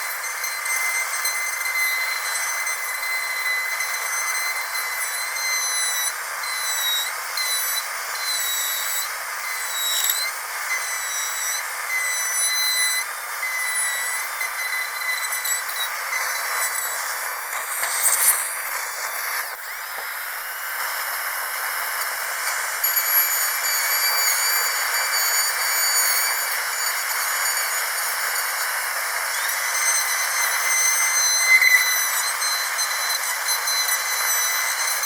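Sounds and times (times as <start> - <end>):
dental drill whining: 0.0 - 35.0.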